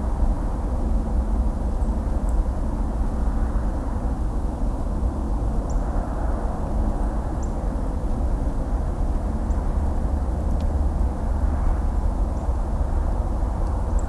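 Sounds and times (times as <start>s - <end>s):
distant highway traffic: 0.0s - 14.0s.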